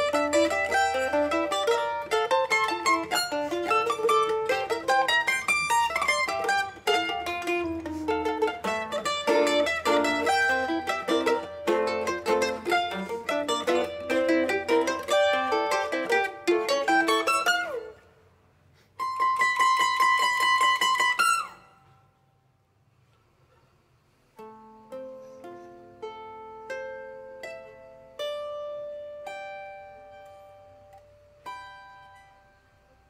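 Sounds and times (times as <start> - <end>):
single plucked notes ringing: 0.0 - 18.1, 24.4 - 33.0
tremolo plucked strings: 0.0 - 18.1, 24.4 - 33.0.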